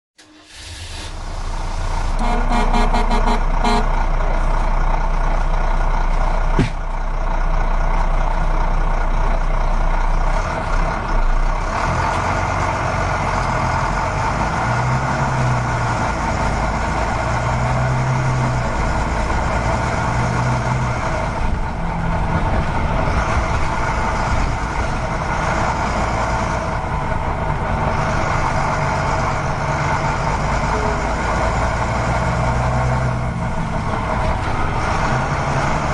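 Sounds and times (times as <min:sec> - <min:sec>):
truck engine running: 0:00.2 - 0:35.9.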